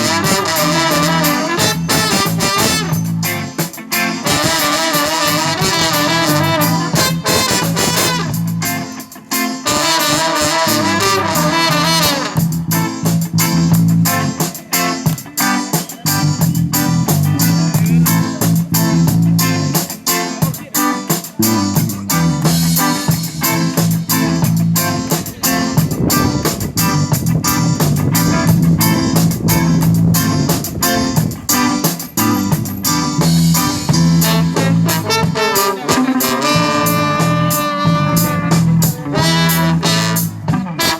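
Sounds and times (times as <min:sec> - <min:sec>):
live band music: 0:00.0 - 0:40.9.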